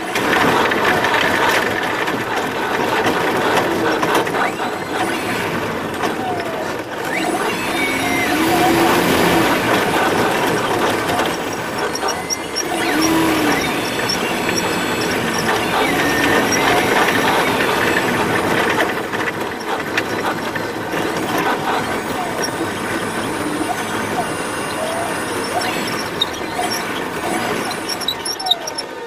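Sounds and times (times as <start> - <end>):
airframe rattling and creaking: 0.0 - 29.0
piston aircraft engine running: 0.0 - 29.0.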